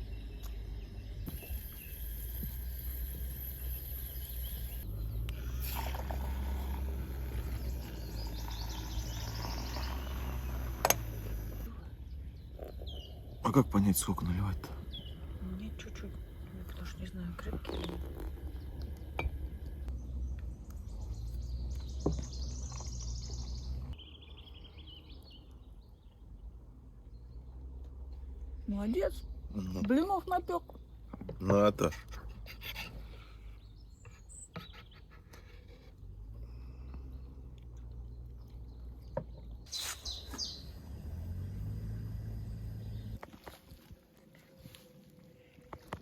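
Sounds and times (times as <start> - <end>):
small birds singing: 0.0 - 46.0.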